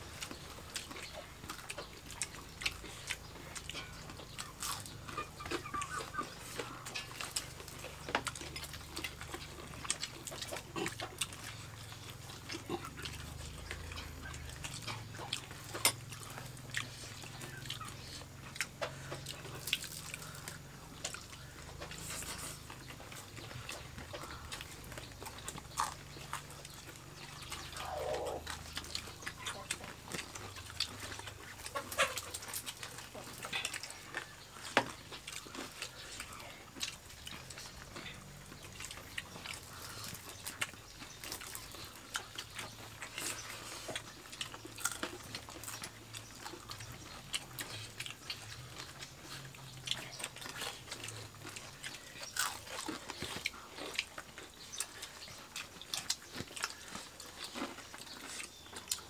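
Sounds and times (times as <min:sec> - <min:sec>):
people chewing and lip-smacking: 0:00.0 - 0:59.0.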